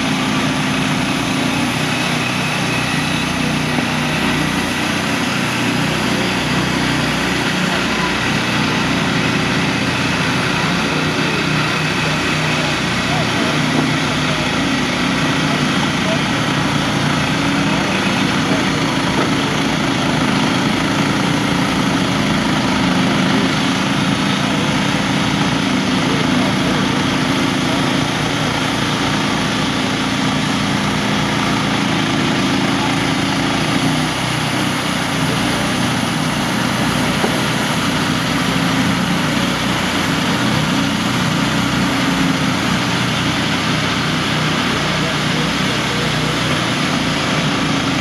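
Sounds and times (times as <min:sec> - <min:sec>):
band saw cutting log: 0:00.0 - 0:48.0
gas engine drone: 0:00.0 - 0:48.0.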